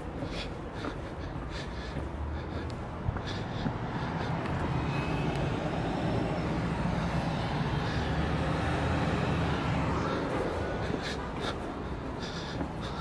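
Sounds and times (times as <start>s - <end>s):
passing cars and buses: 0.0s - 13.0s.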